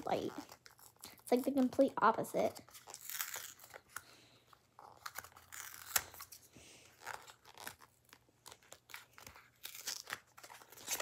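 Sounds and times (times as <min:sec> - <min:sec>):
gift wrapping crinkling and tearing: 0:00.0 - 0:11.0.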